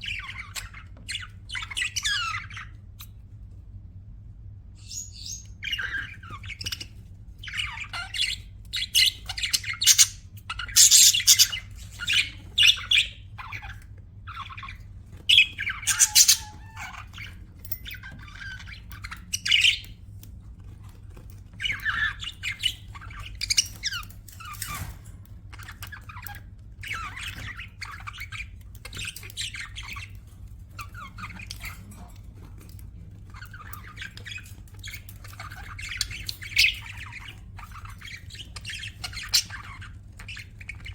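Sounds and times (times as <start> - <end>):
budgerigars chirping and squawking: 0.0 - 3.5, 4.8 - 40.9
faint low hum: 0.0 - 40.9.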